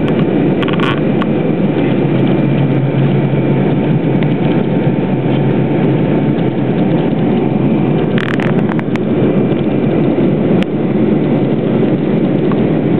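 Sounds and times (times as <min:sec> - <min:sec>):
aircraft cabin engine roar: 0:00.0 - 0:12.9.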